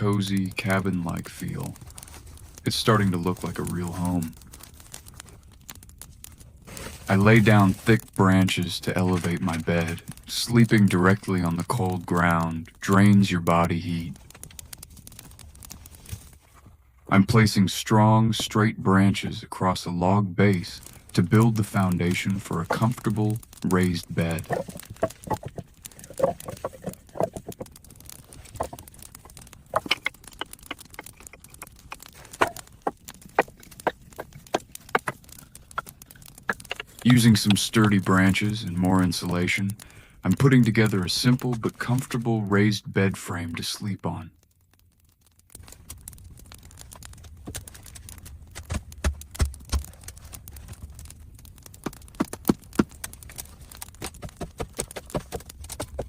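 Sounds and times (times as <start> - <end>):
wooden branches knocking together: 0.0 - 16.7, 20.5 - 42.3, 45.2 - 56.0.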